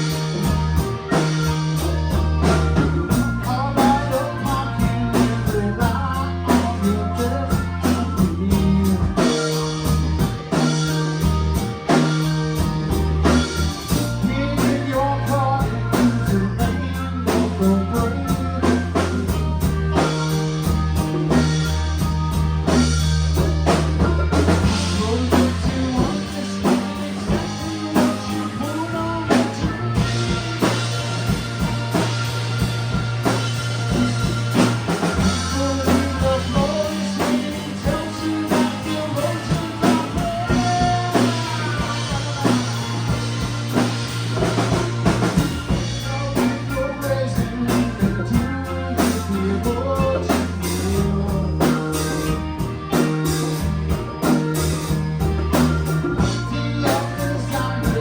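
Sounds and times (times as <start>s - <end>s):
bass notes: 0.0s - 58.0s
drum kit beat: 0.0s - 58.0s
electric guitar: 0.0s - 58.0s.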